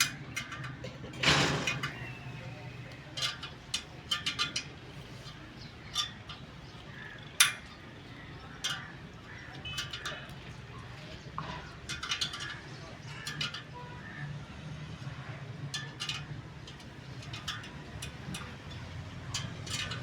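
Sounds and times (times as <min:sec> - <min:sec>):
tools clinking on metal wheel: 0:00.0 - 0:14.2, 0:14.9 - 0:20.0.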